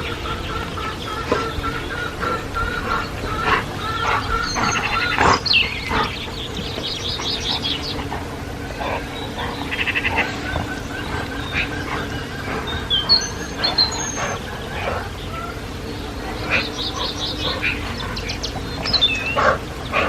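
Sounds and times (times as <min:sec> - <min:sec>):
faint steady hum: 0:00.0 - 0:20.0
small birds singing: 0:00.0 - 0:20.0.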